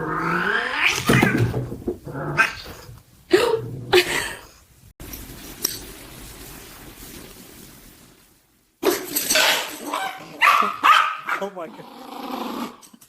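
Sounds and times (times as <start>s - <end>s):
background noise: 0.0s - 13.0s.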